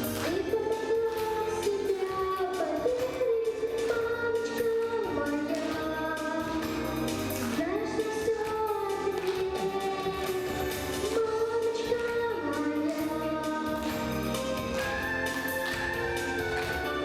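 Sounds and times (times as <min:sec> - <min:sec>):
musical accompaniment: 0:00.0 - 0:17.0.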